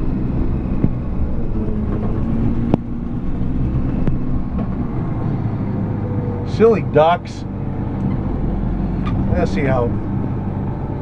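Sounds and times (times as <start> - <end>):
grooming vehicle engine running: 0.0 - 11.0.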